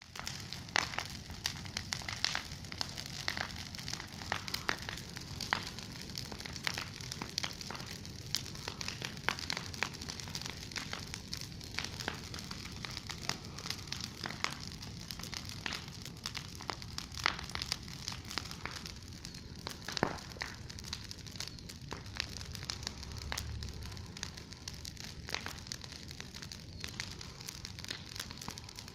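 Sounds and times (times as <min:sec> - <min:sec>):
bonfire crackling: 0:00.0 - 0:28.9.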